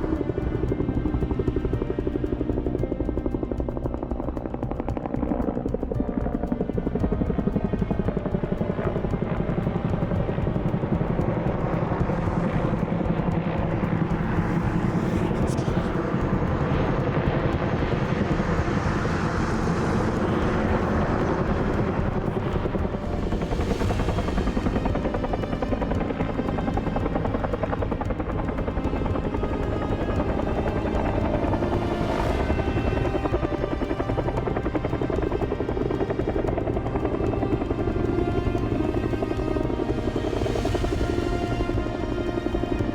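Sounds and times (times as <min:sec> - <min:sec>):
helicopter engine whine: 0:00.0 - 0:42.9
helicopter rotor chopping: 0:00.0 - 0:42.9.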